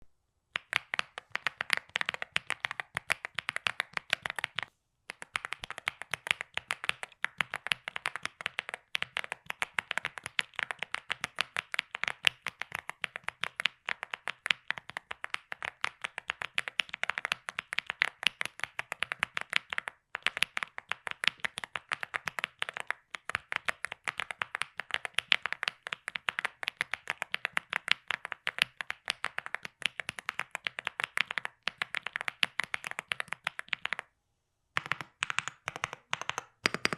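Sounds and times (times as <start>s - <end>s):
mechanical keyboard typing: 0.6s - 34.0s, 34.8s - 36.9s.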